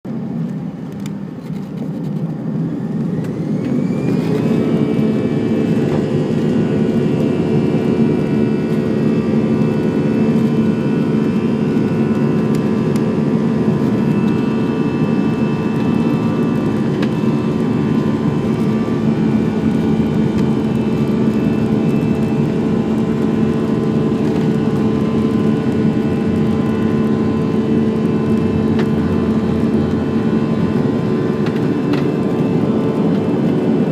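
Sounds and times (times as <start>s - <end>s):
jet engines roaring: 0.1s - 33.9s.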